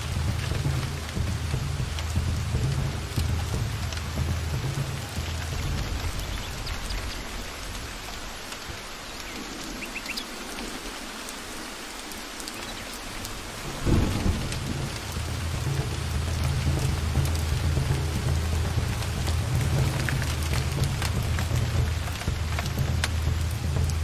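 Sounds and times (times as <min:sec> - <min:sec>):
thunderclap: 0:00.0 - 0:08.7, 0:13.3 - 0:24.0
thunder rumbling: 0:00.0 - 0:10.7, 0:13.0 - 0:24.0
steady rain falling: 0:00.0 - 0:24.0.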